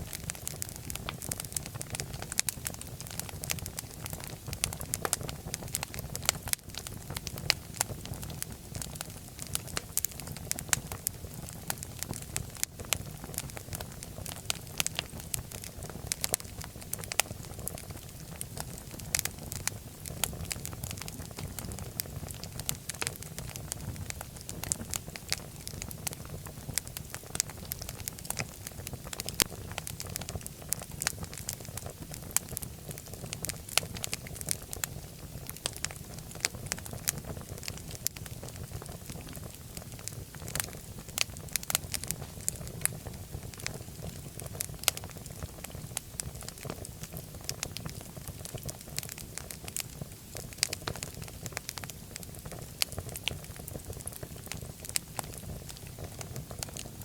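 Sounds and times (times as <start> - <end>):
fire pops and snaps: 0.0 - 57.0
flames rumbling: 0.0 - 57.0.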